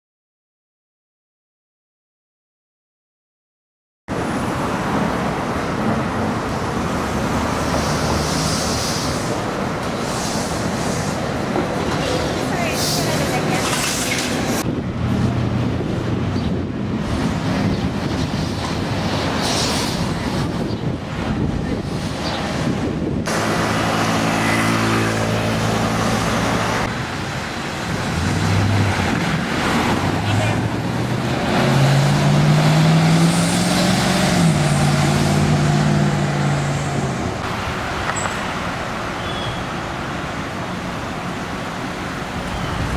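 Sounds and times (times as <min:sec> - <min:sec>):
street traffic noise: 0:04.1 - 0:42.9
trolleybus and cars passing: 0:04.1 - 0:42.9.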